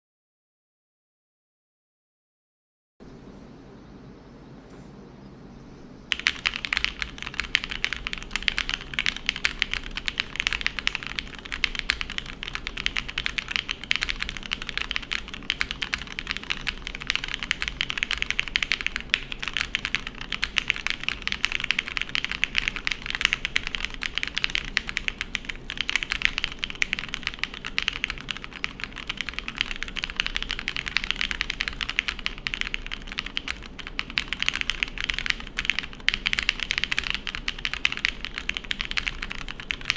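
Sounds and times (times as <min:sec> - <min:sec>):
fast mechanical keyboard typing: 0:06.1 - 0:39.9.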